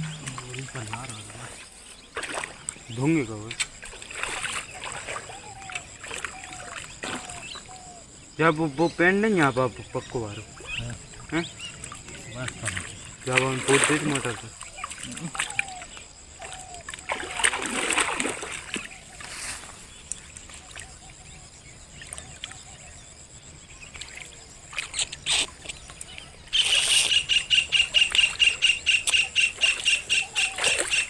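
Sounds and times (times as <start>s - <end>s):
water splashing: 0.0s - 21.2s, 23.7s - 31.0s
insect chirping in pulses: 0.0s - 31.0s.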